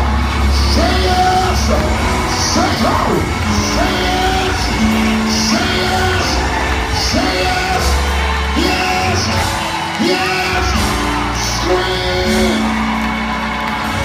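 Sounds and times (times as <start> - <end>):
congregation yelling and whooping: 0.0 - 14.0
held keyboard chords: 0.0 - 14.0
steady bass line: 0.0 - 14.0.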